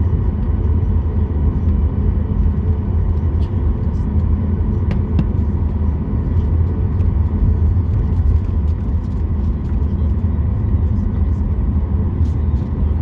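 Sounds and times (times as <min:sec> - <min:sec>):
aircraft cabin rumble: 0:00.0 - 0:13.0
faint engine whine: 0:00.0 - 0:13.0.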